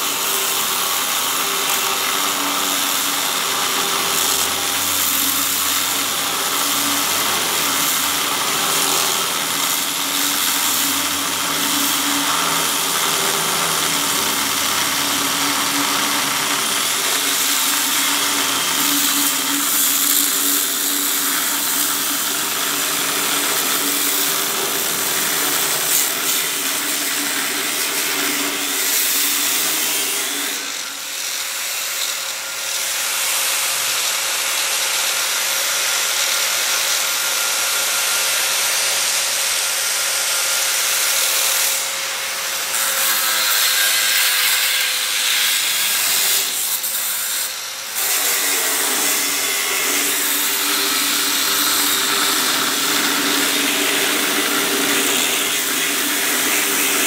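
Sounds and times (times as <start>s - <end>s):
power tool hissing on steel: 0.0s - 57.0s.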